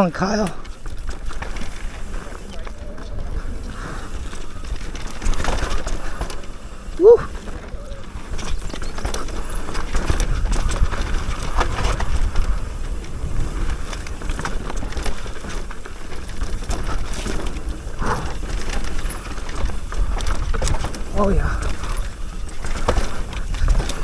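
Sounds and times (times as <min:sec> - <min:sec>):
bike chain and frame rattling: 0:00.0 - 0:24.0
tyres on dirt and rocks: 0:00.0 - 0:24.0
wind buffeting microphone: 0:00.6 - 0:24.0.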